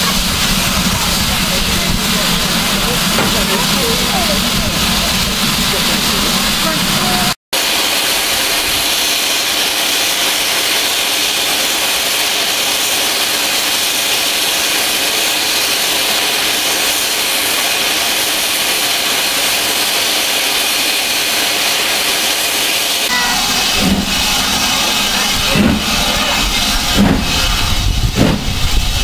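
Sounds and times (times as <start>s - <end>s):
steam locomotive blowing off steam: 0.0s - 29.0s.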